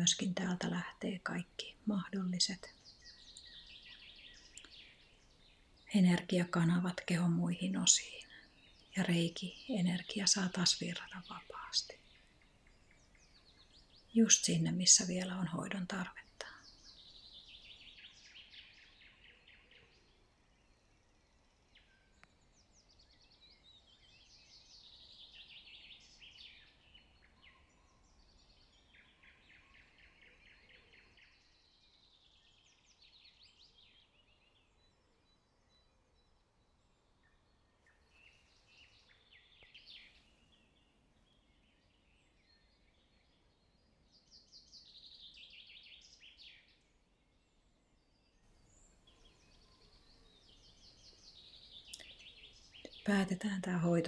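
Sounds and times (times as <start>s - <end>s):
faint birdsong trills and chirps: 0.0s - 54.0s
quiet background hiss: 0.0s - 54.0s.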